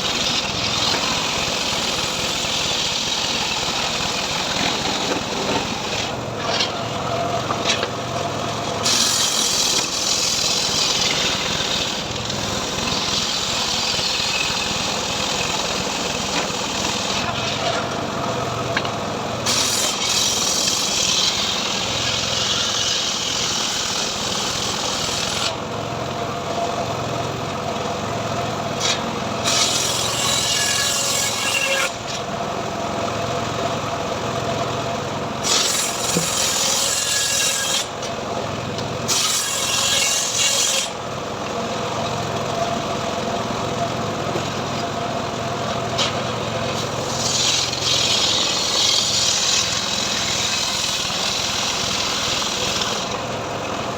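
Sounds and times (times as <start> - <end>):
sawmill saw cutting wood: 0.0 - 53.9.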